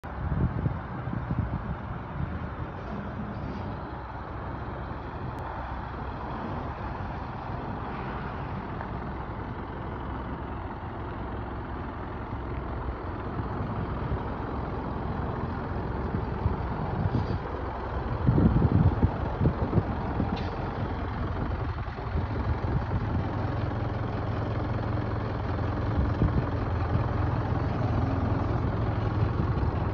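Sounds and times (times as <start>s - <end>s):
truck engine idling: 0.0s - 29.9s.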